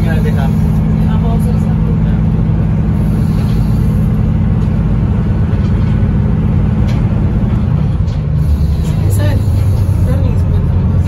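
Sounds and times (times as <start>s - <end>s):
boat diesel engine droning: 0.0s - 11.0s.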